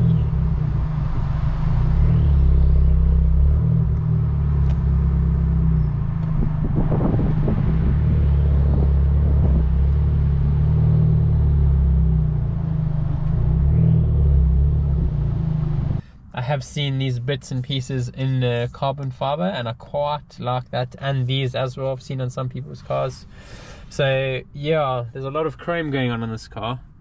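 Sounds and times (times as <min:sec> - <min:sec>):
car engine droning: 0:00.0 - 0:24.5.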